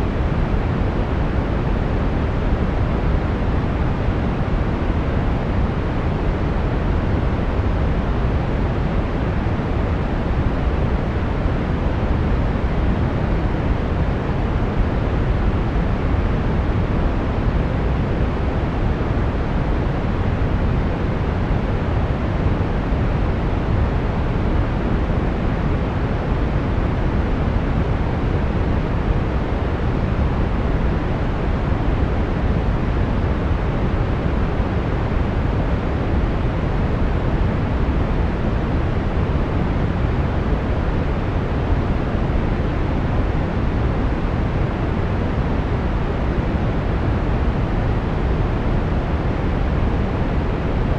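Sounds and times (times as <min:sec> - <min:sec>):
brown noise rumbling hiss: 0:00.0 - 0:50.9.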